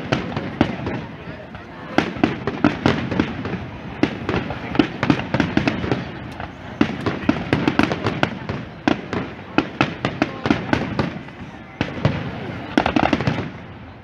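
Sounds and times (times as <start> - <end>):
firework bangs and pops: 0.0 - 14.0.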